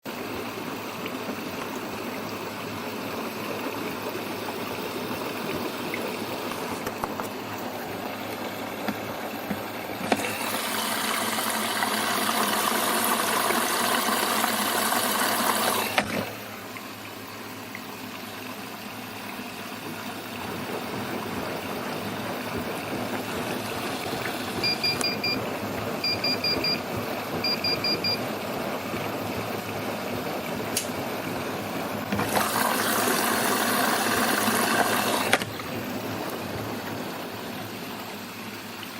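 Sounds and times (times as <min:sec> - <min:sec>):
washer-dryer running watery rush: 0:00.0 - 0:38.9.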